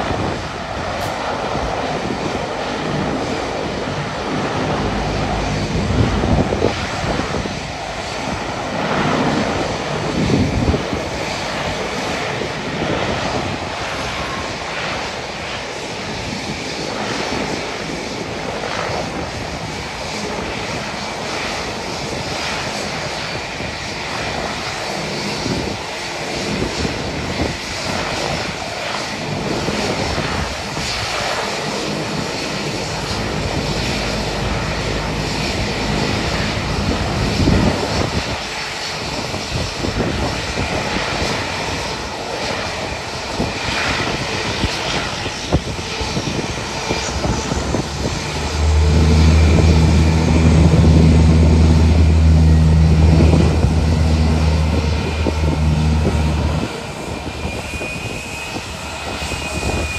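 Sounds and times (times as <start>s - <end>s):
turboprop engines running: 0.0s - 59.9s
wind gusts on microphone: 0.0s - 59.9s.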